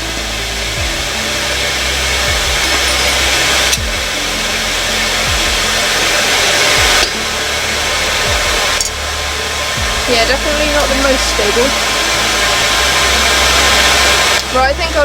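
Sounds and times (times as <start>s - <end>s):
motor-driven tool rushing noise: 0.0s - 15.0s.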